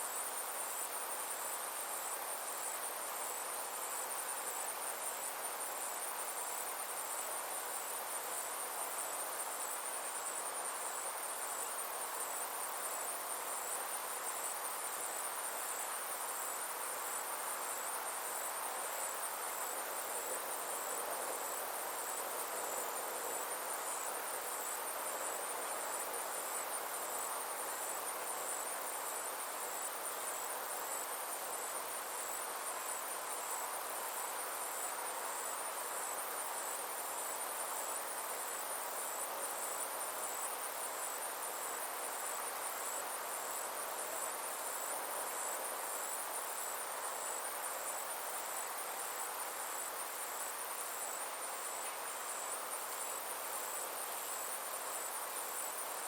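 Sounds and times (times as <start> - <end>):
insects trilling: 0.0 - 56.0
soft background hiss: 0.0 - 56.0.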